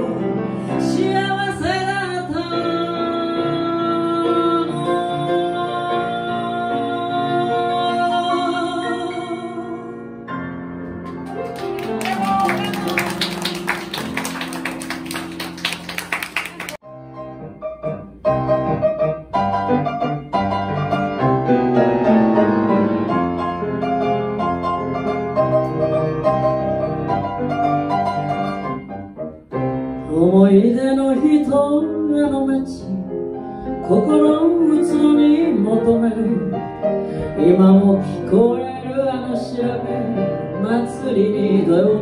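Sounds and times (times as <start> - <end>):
piano chords: 0.0 - 42.0.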